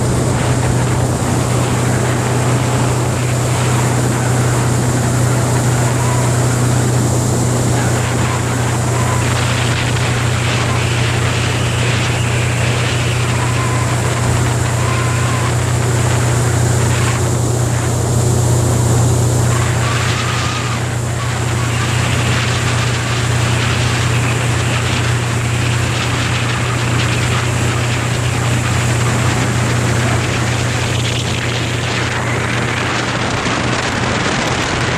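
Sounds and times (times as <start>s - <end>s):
motorboat engine droning: 0.0s - 34.9s
water rushing: 0.0s - 34.9s
wind noise: 0.0s - 34.9s.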